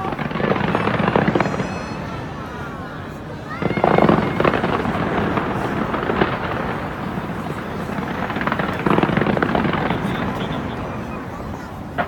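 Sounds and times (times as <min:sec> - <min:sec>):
fireworks crackling and bursting: 0:00.0 - 0:12.0.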